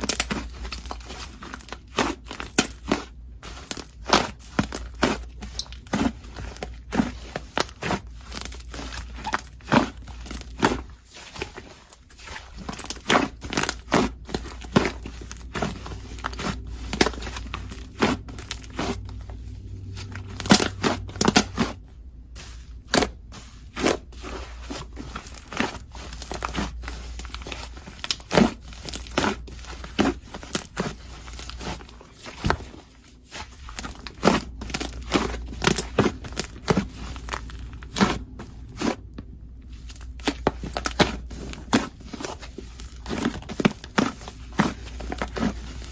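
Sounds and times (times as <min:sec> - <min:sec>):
sticky slime popping and crackling: 0:00.0 - 0:21.8, 0:22.9 - 0:45.9.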